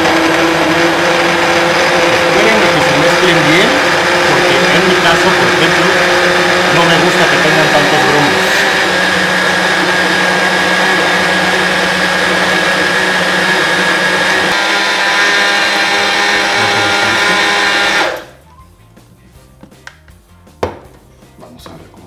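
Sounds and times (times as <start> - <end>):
blender running: 0.0 - 18.4.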